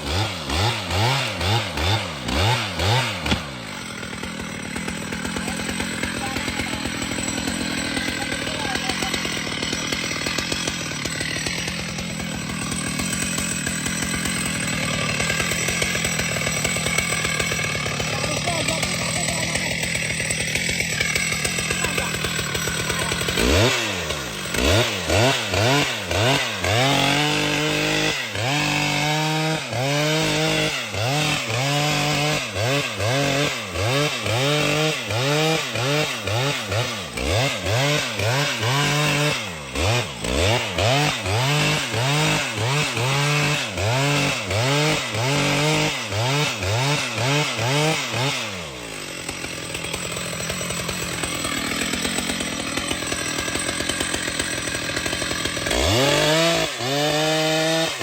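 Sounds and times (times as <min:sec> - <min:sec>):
chainsaw engine running: 0:00.0 - 0:58.0.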